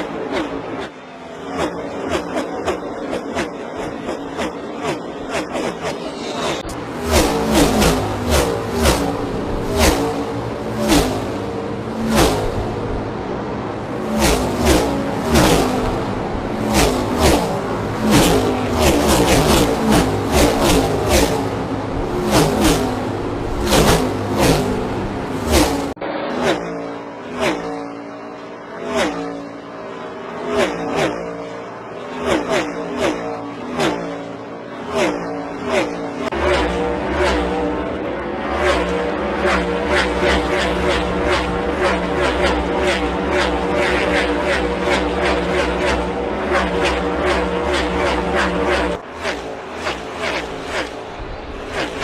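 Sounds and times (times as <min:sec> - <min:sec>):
race car engines passing: 0:00.0 - 0:52.0.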